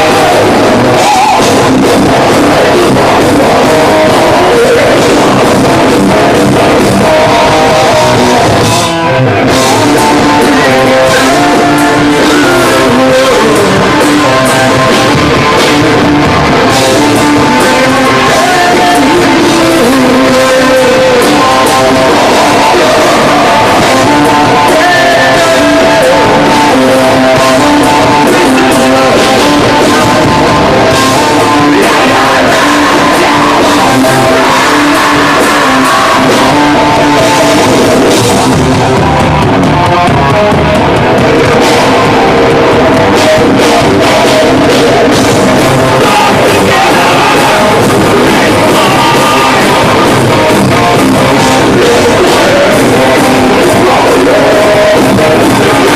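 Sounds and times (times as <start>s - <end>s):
distorted electric guitars: 0.0s - 55.9s
drum kit: 0.0s - 55.9s
person singing: 0.0s - 55.9s.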